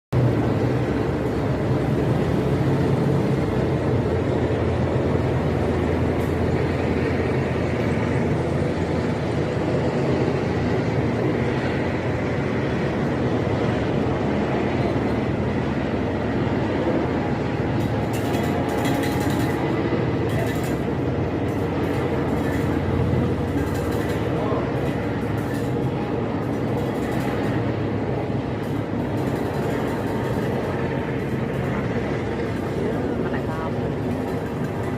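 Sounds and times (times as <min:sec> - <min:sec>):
aircraft engines rumbling overhead: 0:00.1 - 0:34.9.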